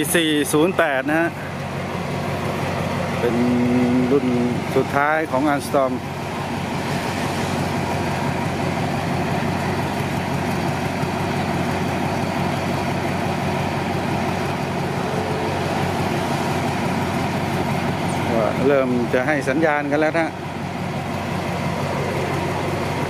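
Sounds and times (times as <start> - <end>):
locomotive engine idling: 0.0 - 23.0.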